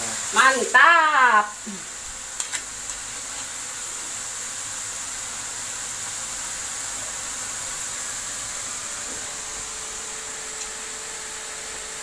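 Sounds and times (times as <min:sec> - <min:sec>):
stir-fry sizzling in a wok: 0:00.0 - 0:12.0.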